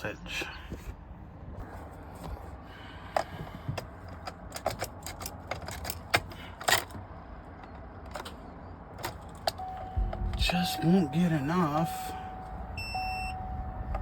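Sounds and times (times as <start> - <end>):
low steady background hum: 0.0 - 14.0.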